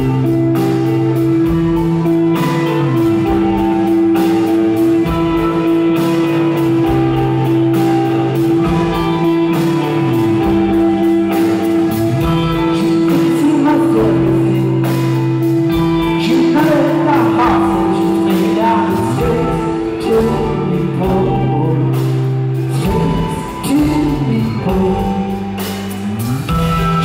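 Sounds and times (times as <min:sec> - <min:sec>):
bass guitar: 0:00.0 - 0:27.0
drums: 0:00.0 - 0:27.0
electric guitar: 0:00.0 - 0:27.0
man singing: 0:02.3 - 0:27.0.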